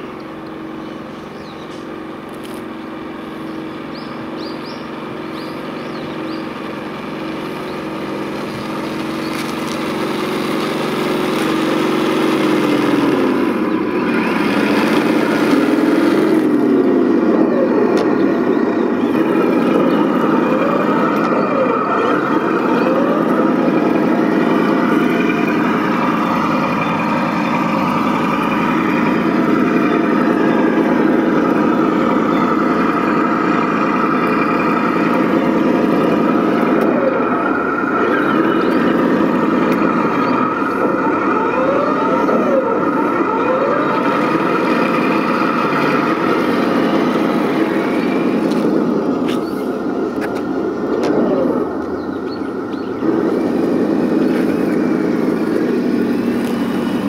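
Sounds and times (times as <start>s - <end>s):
model tank motor droning: 0.0s - 57.0s.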